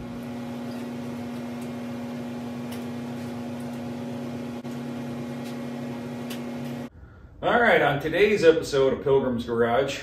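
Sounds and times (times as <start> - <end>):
machine electrical hum: 0.0 - 8.5.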